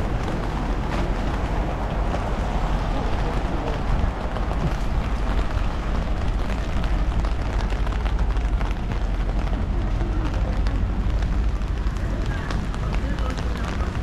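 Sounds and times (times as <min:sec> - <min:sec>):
low rumble: 0:00.0 - 0:14.0
steady rain patter: 0:00.0 - 0:14.0.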